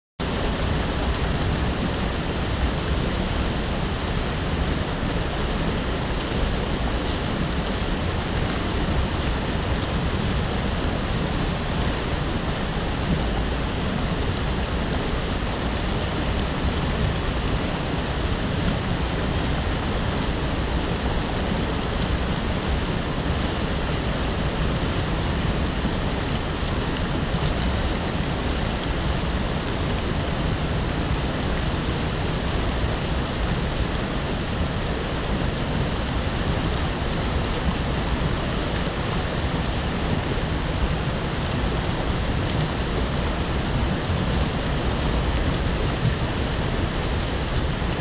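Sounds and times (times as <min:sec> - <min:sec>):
stream rushing over stones: 0:00.2 - 0:48.0
waterfall: 0:00.2 - 0:48.0.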